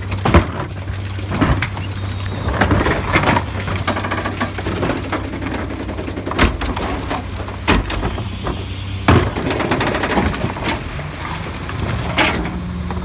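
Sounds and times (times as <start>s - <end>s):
garbage truck engine humming: 0.0s - 13.0s
trash clattering and crashing: 0.0s - 13.0s.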